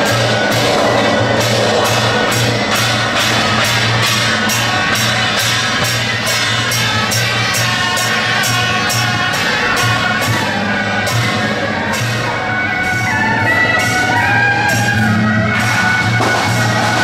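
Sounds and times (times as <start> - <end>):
drum and cymbal beat: 0.0 - 17.0
sustained melody tones: 0.0 - 17.0.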